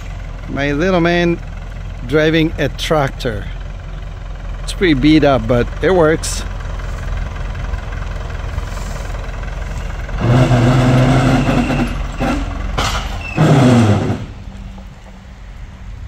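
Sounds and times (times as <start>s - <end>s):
tractor engine rumbling: 0.0s - 16.0s.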